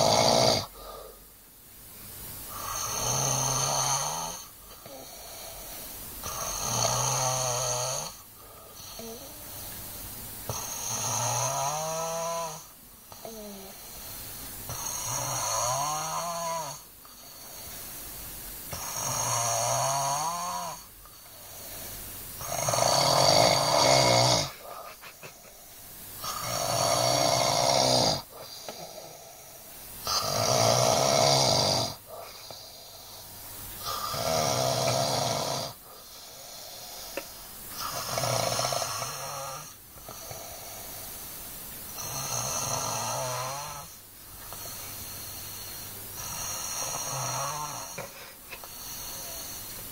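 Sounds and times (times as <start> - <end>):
person snoring: 0.0 - 1.2, 2.5 - 9.7, 10.5 - 17.8, 18.7 - 41.2, 41.9 - 49.9.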